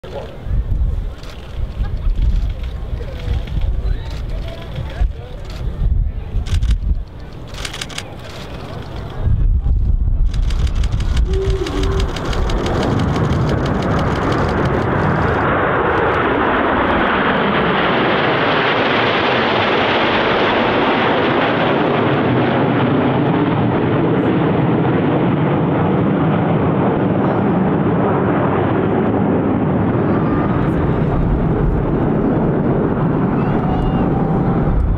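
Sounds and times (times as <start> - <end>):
jet formation passing overhead: 0.0 - 34.9.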